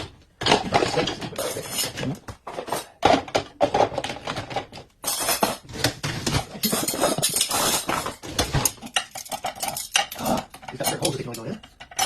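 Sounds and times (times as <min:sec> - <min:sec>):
dishes and cutlery clattering: 0:00.0 - 0:12.0.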